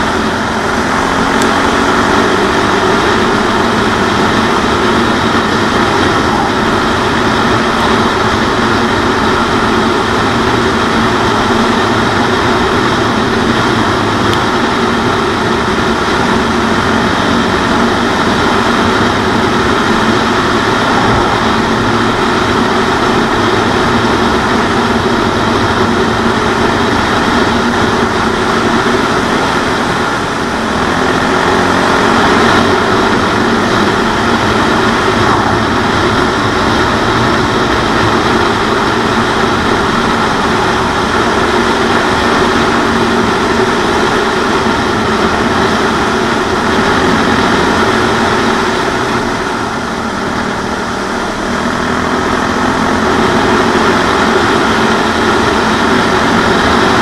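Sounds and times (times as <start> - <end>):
wind rushing over microphone: 0.0 - 52.4
motorcycle engine running: 0.0 - 57.0.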